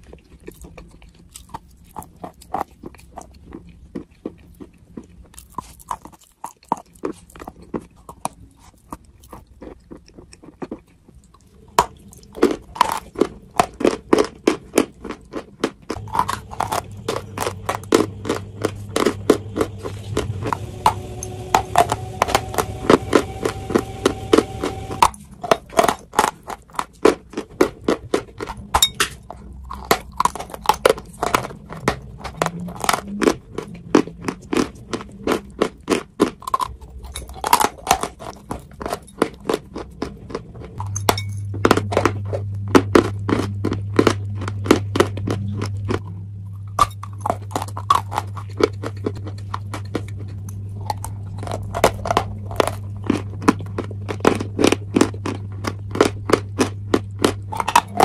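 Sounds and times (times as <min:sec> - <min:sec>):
crunchy biting and chewing: 0:00.0 - 0:58.0
steady low hum: 0:10.8 - 0:58.0.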